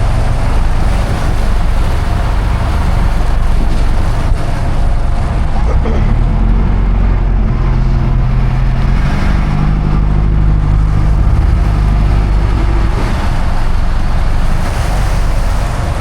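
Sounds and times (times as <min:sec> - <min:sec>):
boat engines humming: 0:00.0 - 0:16.0
wind and water noise: 0:00.0 - 0:16.0.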